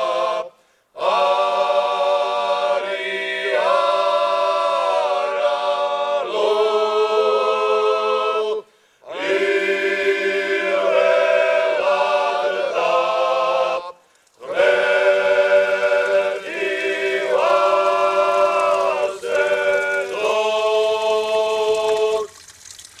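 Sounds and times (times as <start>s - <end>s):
men's choir singing polyphony: 0.0s - 22.3s.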